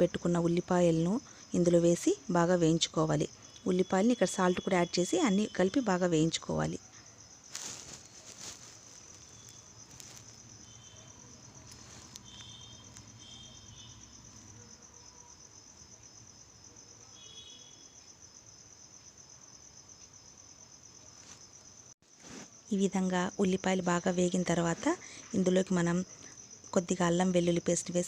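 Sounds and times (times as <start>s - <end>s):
cricket trilling: 0.0s - 28.0s.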